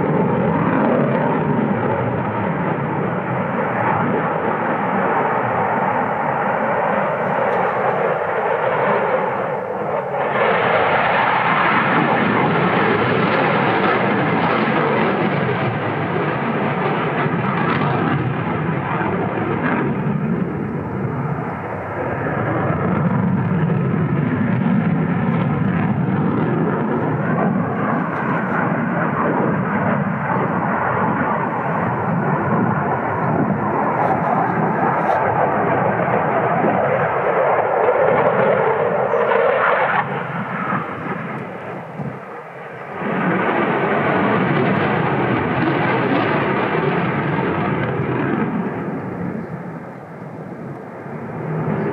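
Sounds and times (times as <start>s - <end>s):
loud jet engine noise: 0.0s - 51.9s.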